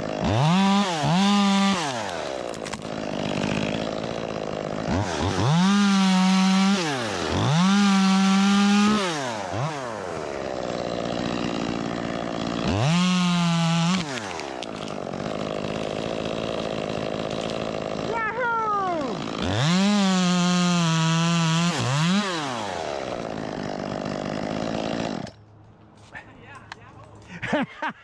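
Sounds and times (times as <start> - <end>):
chainsaw revving: 0.0 - 25.4.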